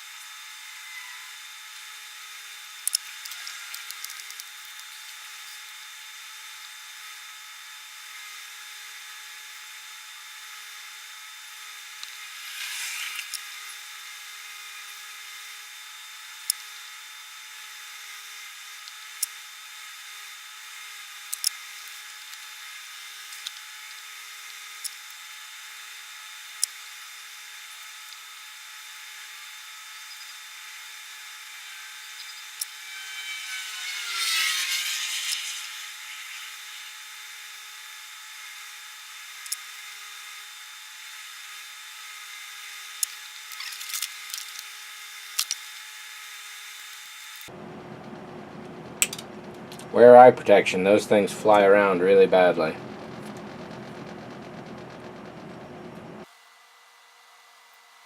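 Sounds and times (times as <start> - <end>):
faint electrical whine: 0.0 - 58.0.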